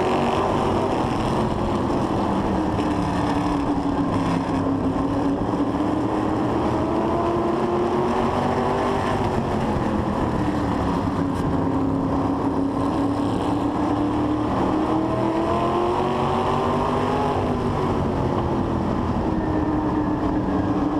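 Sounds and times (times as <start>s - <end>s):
race car engine at speed: 0.0s - 20.9s.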